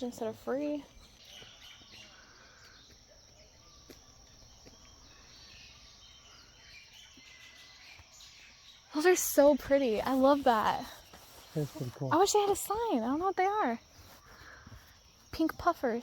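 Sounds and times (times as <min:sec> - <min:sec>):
high insect drone: 0:00.0 - 0:16.0
soft bird chirps: 0:00.0 - 0:16.0.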